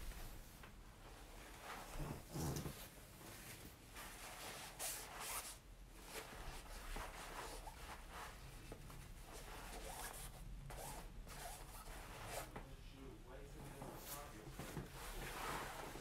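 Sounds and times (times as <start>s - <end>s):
tissue rubbing fabric: 0.0s - 12.6s, 13.8s - 16.0s.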